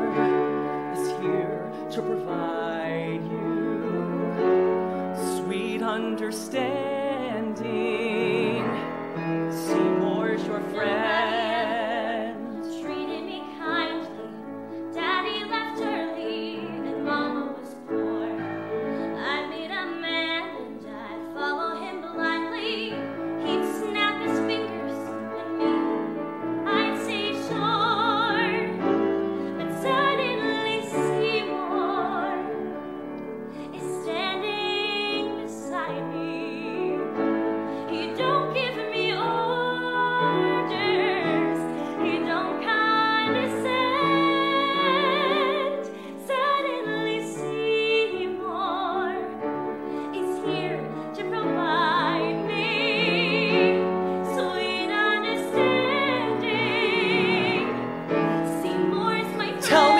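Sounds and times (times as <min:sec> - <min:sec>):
grand piano: 0:00.0 - 0:59.9
woman singing operatically: 0:00.9 - 0:03.9, 0:05.2 - 0:08.8, 0:09.6 - 0:18.5, 0:19.1 - 0:26.0, 0:26.6 - 0:28.8, 0:29.5 - 0:32.6, 0:33.6 - 0:36.9, 0:37.8 - 0:49.4, 0:50.2 - 0:57.7, 0:58.5 - 0:59.9.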